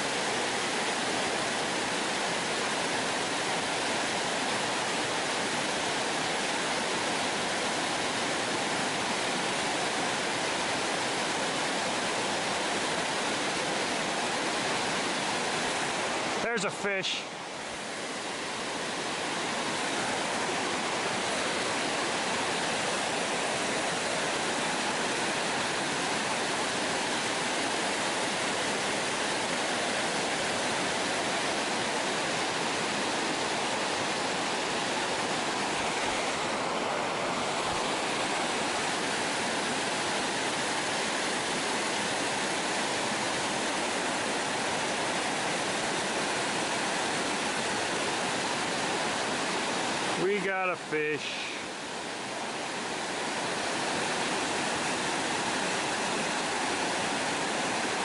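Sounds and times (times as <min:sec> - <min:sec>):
water rushing over a dam: 0:00.0 - 0:58.0.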